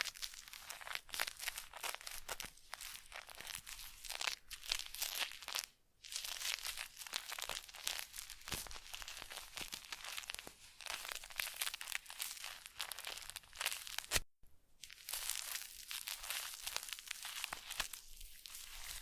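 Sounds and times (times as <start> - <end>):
crinkling and scratching: 0.0 - 19.0.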